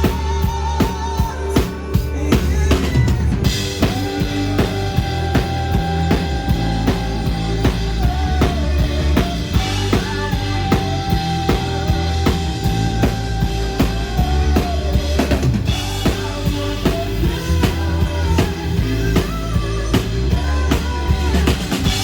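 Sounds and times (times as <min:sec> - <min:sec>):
drum kit beat: 0:00.0 - 0:22.0
heavy bass line: 0:00.0 - 0:22.0.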